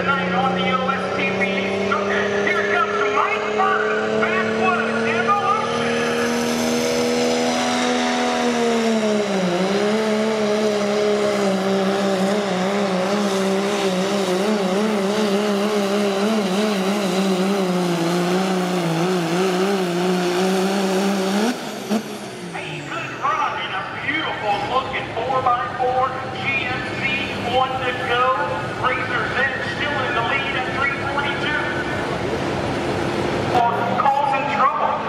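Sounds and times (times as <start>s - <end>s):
diesel pickup engine at full throttle: 0.0s - 35.0s.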